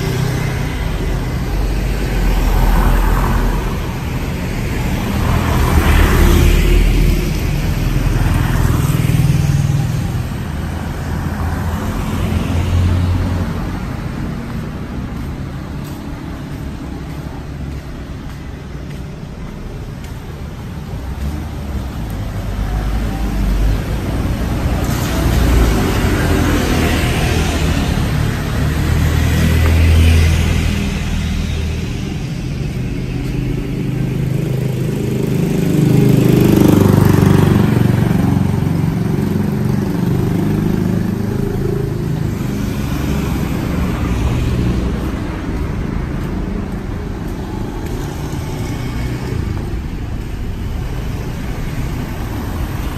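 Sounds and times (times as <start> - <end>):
motor scooters passing by: 0.0 - 52.9
street traffic: 0.0 - 52.9.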